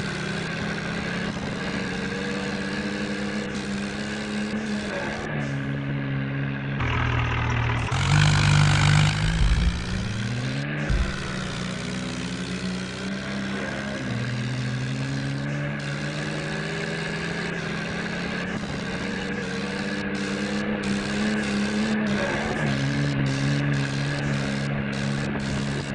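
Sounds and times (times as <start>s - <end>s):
tractor diesel engine revving: 0.0s - 25.9s.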